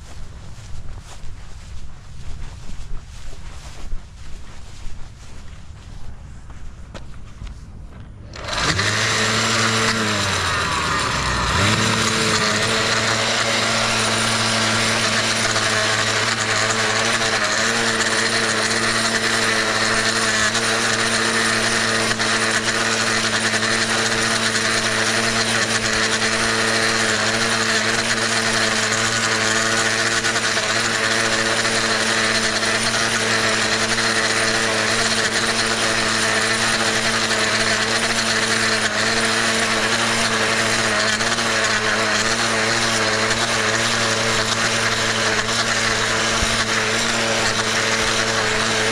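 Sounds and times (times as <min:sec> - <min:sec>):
blade edger running: 0:08.2 - 0:48.9.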